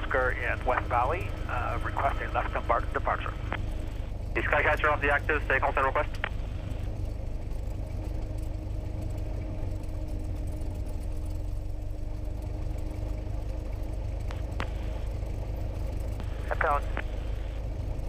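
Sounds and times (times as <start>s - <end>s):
propeller aircraft engine running: 0.0s - 18.0s.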